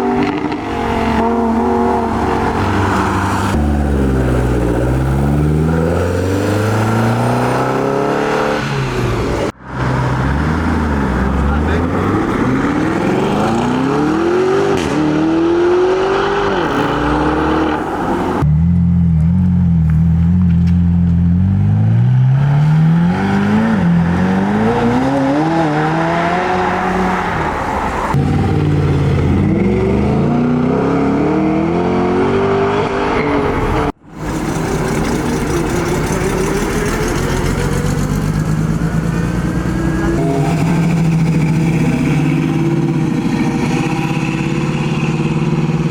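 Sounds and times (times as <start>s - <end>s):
performance car engines accelerating: 0.0s - 45.9s.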